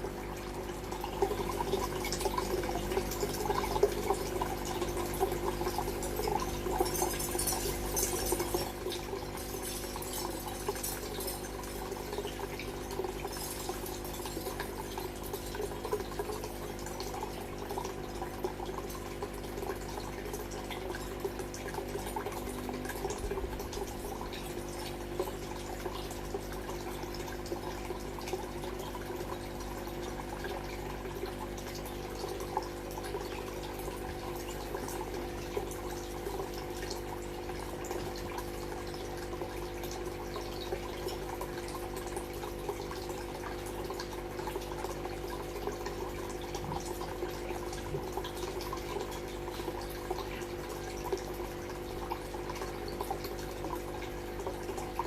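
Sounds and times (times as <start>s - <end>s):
small water splashes: 0.0s - 55.0s
water trickling and dripping: 0.0s - 55.0s.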